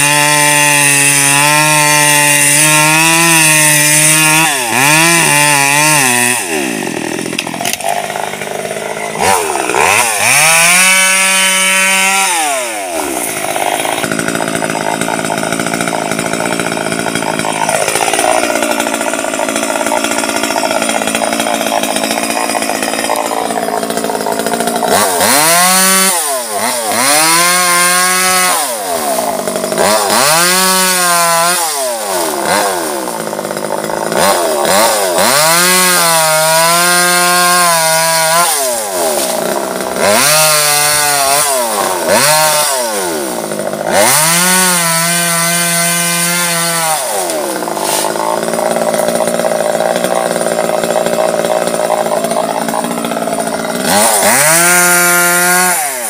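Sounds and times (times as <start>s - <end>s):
chainsaw cutting and revving: 0.0s - 56.0s.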